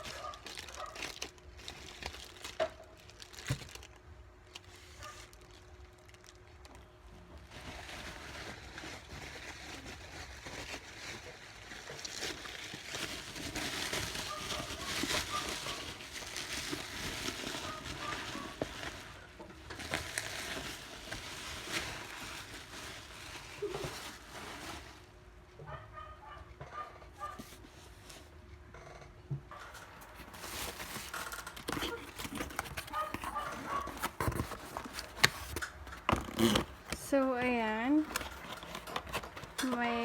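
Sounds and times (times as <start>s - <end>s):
packaging rustling and crinkling: 0.0s - 25.2s, 29.5s - 40.0s.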